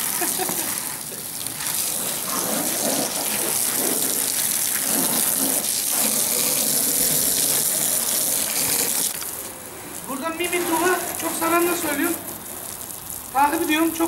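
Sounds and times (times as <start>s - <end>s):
brush scrubbing car: 0.0s - 9.2s, 10.1s - 12.6s
hose water splashing on paving: 0.0s - 14.0s.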